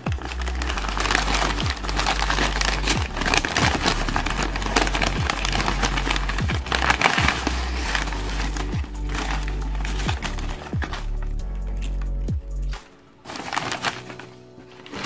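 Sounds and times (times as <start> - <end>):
newspaper crinkling and crumpling: 0.0 - 12.2, 12.8 - 15.0
music with low bass beat: 0.0 - 12.9.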